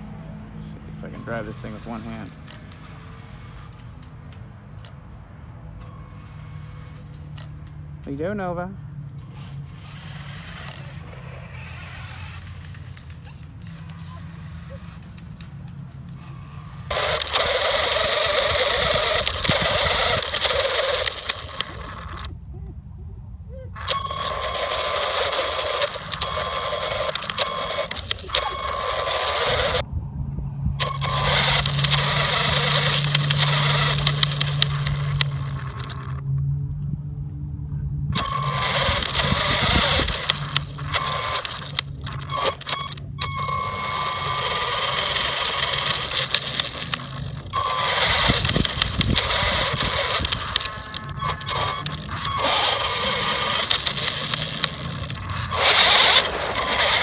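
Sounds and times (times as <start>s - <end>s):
electric motor and gears whining: 0.0s - 22.4s, 23.7s - 29.9s, 30.7s - 36.9s, 38.0s - 57.0s.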